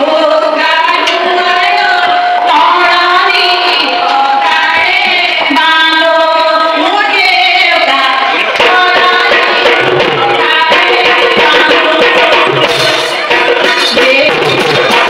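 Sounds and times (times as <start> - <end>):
women singing a folk song: 0.0 - 12.6, 13.3 - 15.0.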